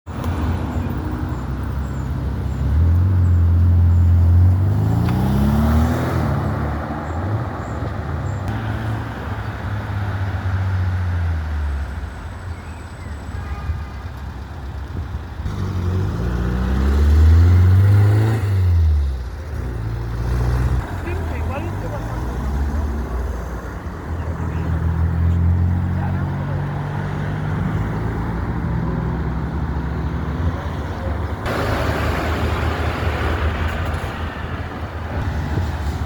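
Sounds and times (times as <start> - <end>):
car engines accelerating hard: 0.1 - 12.2, 14.3 - 36.0.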